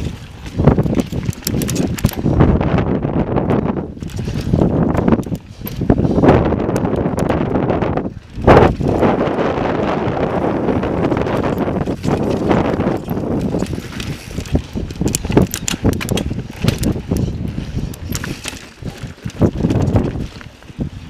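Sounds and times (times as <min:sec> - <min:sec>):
bike clacking and rattling on rock: 0:00.0 - 0:20.9
wind on microphone: 0:00.0 - 0:21.0.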